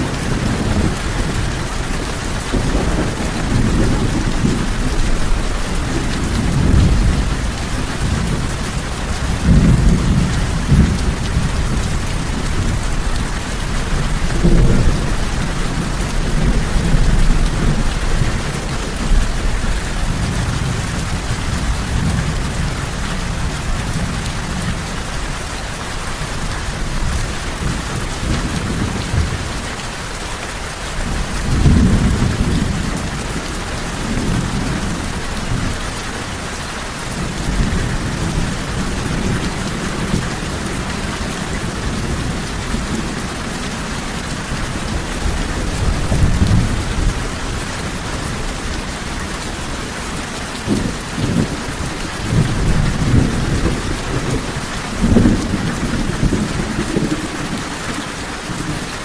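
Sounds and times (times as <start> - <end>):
thunder rumbling: 0.0 - 25.3, 31.0 - 35.8, 37.0 - 58.9
heavy rain falling: 0.0 - 59.0.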